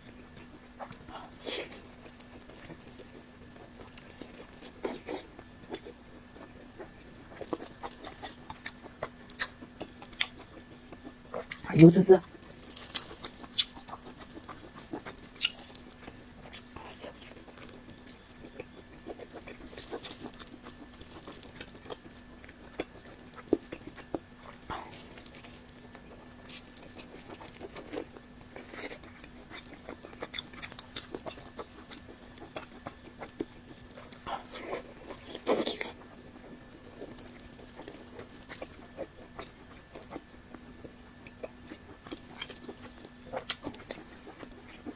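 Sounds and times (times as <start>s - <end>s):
person chewing with wet smacks: 0.0s - 44.9s.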